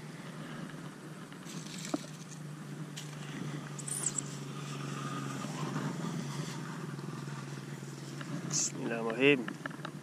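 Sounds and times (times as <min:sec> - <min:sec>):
engine humming steadily: 0:00.0 - 0:10.0.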